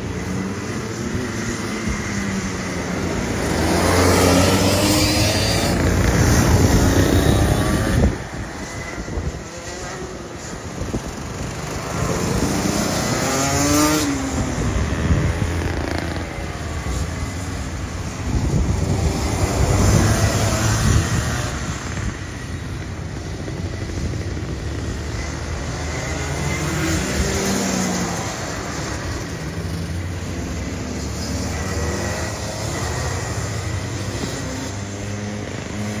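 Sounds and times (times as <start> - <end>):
go-kart engines passing: 0.0 - 36.0.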